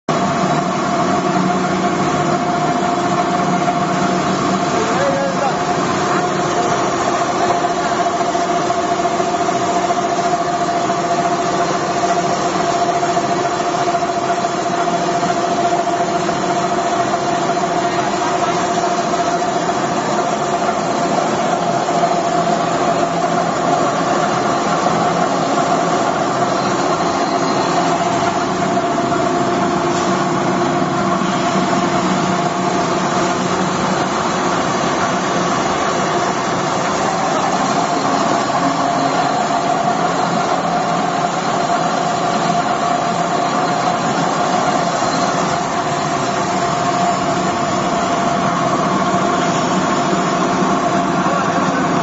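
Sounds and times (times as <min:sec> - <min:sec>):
pellet mill machine drone: 0:00.1 - 0:52.0.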